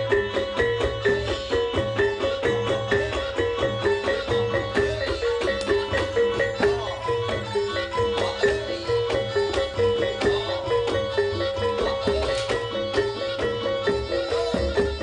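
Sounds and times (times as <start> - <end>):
steady drumming: 0.0 - 15.0.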